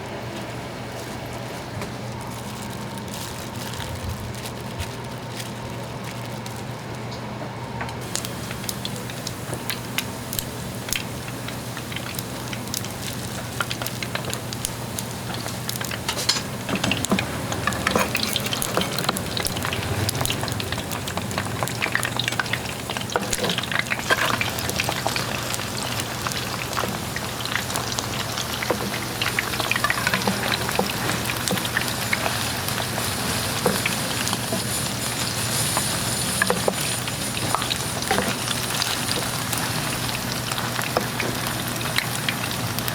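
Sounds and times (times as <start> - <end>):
food frying in hot oil: 0.1 - 7.3, 8.0 - 42.9.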